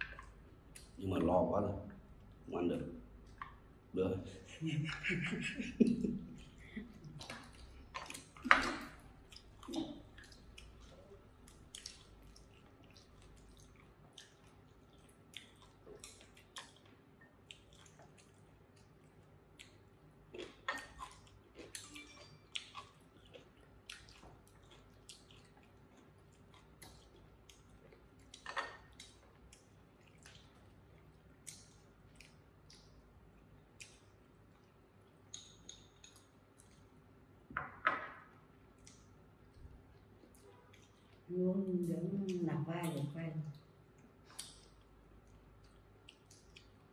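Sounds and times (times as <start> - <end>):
people chewing and smacking: 0.0 - 1.1, 2.0 - 3.9, 4.5 - 37.5, 38.2 - 46.9.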